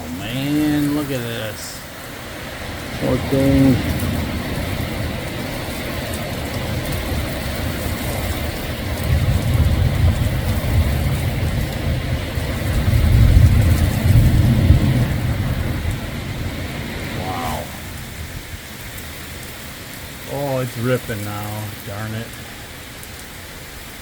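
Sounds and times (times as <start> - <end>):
strong wind gusts: 0.0 - 20.2
low thunder rumble: 0.0 - 22.7
heavy rain: 0.0 - 24.0.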